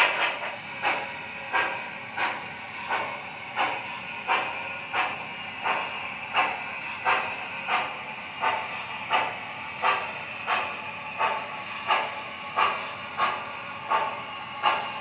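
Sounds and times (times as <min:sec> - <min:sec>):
model train steam chuffs: 0:00.0 - 0:15.0.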